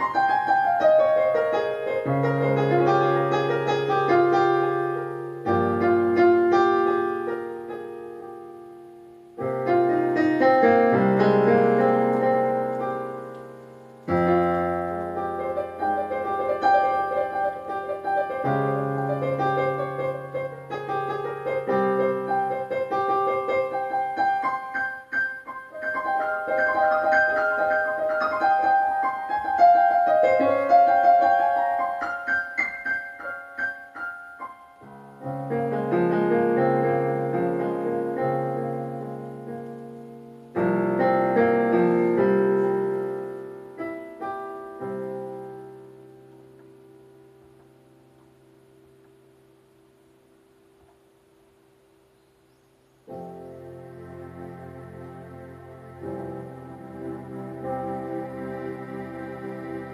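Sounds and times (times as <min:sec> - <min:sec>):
higher piano notes run: 0:00.0 - 0:59.9
piano chords ringing: 0:00.0 - 0:59.9.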